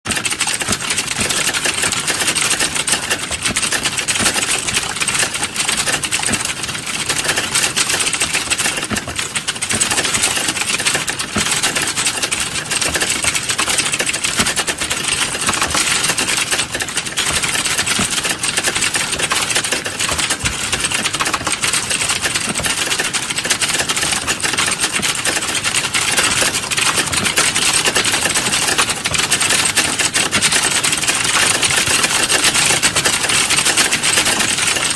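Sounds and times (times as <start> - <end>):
fast keyboard typing: 0.1 - 34.9.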